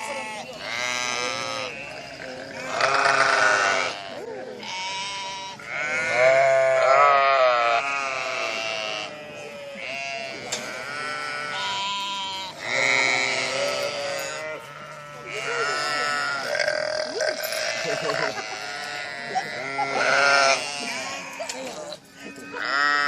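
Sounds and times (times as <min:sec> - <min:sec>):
sheep bleating: 0:00.0 - 0:23.0.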